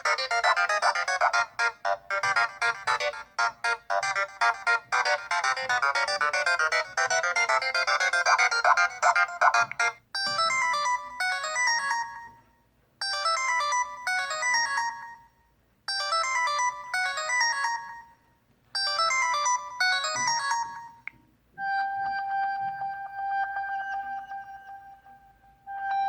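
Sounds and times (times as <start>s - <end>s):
phone ringtone high notes: 0.0s - 12.4s, 13.0s - 15.3s, 15.9s - 18.2s, 18.8s - 26.0s
ringtone steady held tone: 0.0s - 26.0s.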